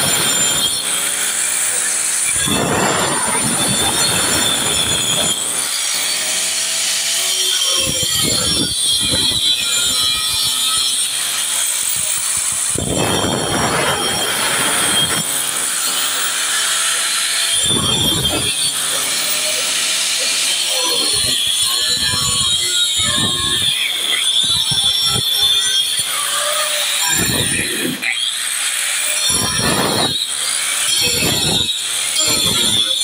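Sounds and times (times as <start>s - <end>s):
angle grinder cutting concrete: 0.0s - 33.0s.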